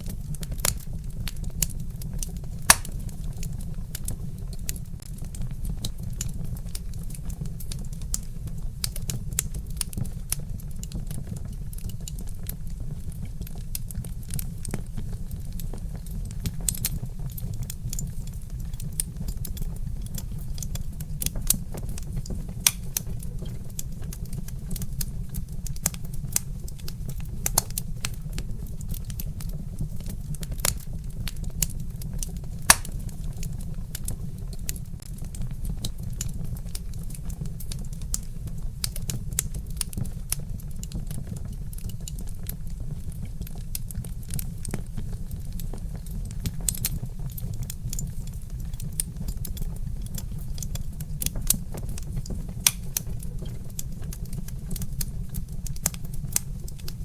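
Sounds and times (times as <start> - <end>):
sharp pops from burning logs: 0.0 - 12.6, 13.2 - 42.6, 43.2 - 57.0
low fire rumble: 0.0 - 57.0
wood fire crackling: 0.0 - 57.0.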